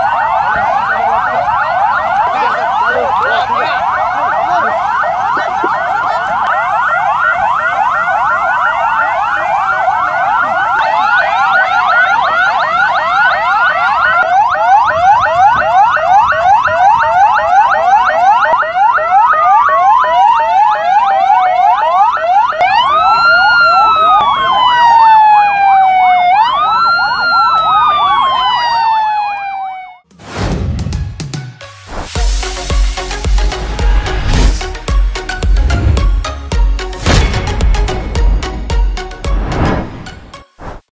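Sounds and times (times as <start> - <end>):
siren wail: 0.0 - 30.1, 32.3 - 40.3
siren yelp: 0.0 - 30.1, 32.4 - 39.6.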